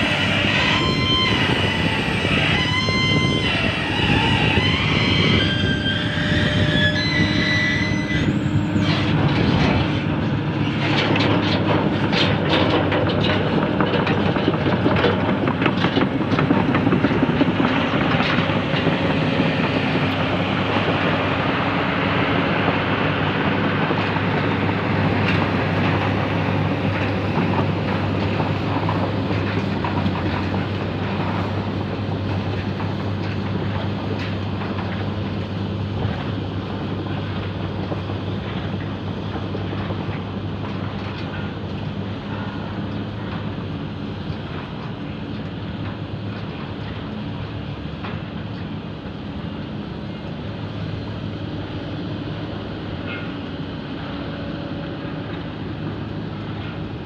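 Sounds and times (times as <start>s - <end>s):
diesel engine running: 0.0s - 57.0s
steel tracks clattering: 0.0s - 57.0s.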